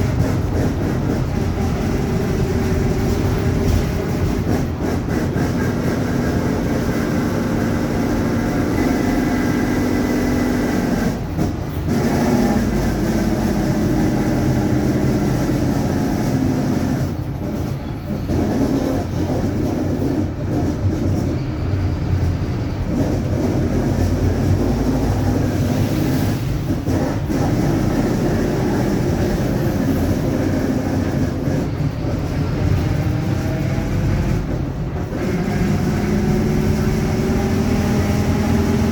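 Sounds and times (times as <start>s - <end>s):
bus drivetrain whining: 0.0s - 38.9s.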